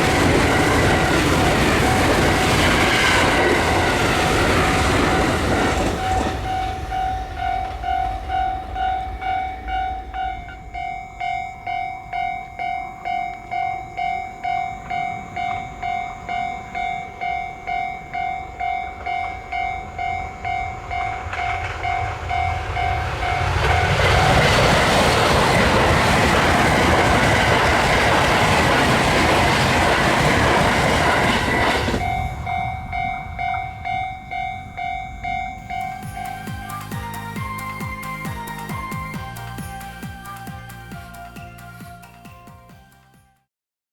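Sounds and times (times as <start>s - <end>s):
level crossing warning bell: 0.0s - 42.2s
train passing over rails: 0.0s - 43.2s.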